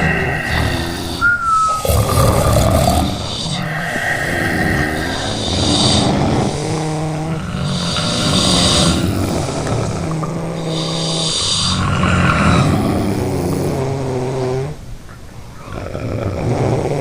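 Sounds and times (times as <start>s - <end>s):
hissing breaths: 0.0s - 15.8s
people snoring: 0.0s - 17.0s.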